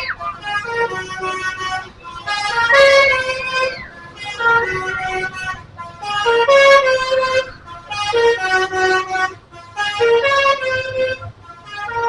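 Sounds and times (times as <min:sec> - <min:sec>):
musical bus horn melody: 0:00.0 - 0:12.0.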